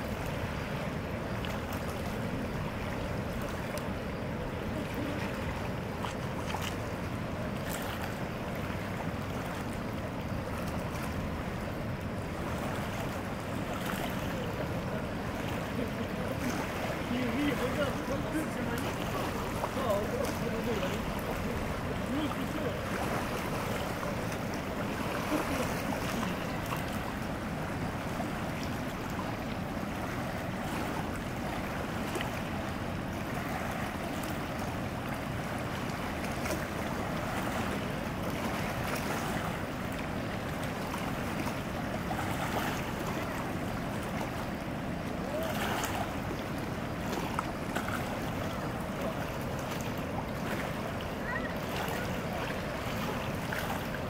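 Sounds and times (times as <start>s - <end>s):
white water rushing: 0.0s - 54.0s.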